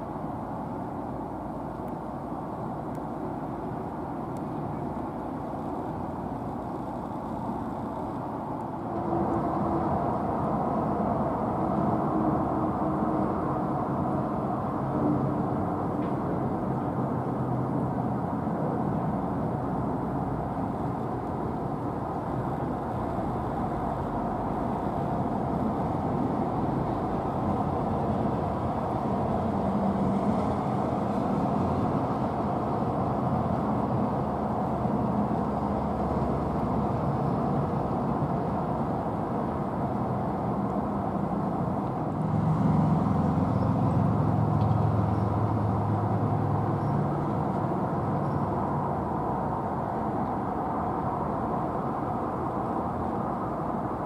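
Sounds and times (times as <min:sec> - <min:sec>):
distant motor traffic rumble: 0:00.0 - 0:54.0
engine drone: 0:00.0 - 0:54.0.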